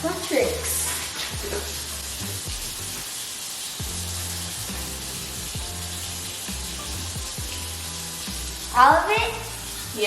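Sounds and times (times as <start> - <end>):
background music with bass line: 0.0 - 3.1, 3.8 - 10.0
constant hiss: 0.1 - 10.0.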